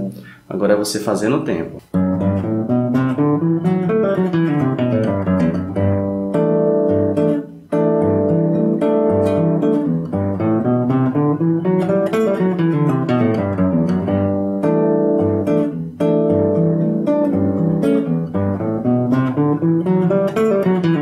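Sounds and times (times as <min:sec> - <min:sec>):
fingerstyle classical guitar: 0:00.0 - 0:00.3, 0:01.8 - 0:21.0.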